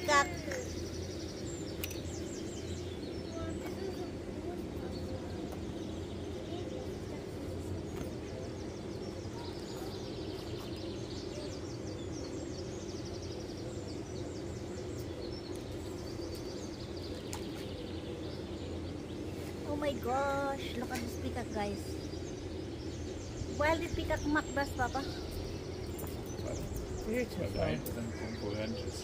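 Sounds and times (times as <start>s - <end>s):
constant low hum: 0.0s - 29.0s
small birds chirping: 0.0s - 29.0s.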